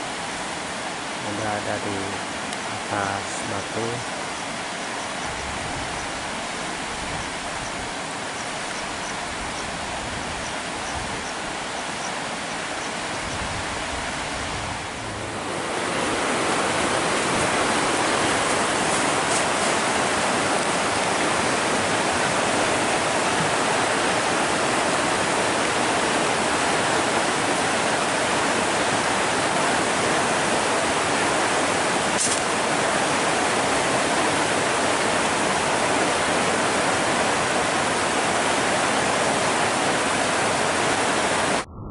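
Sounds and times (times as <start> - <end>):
river rushing in flood: 0.0 - 41.7.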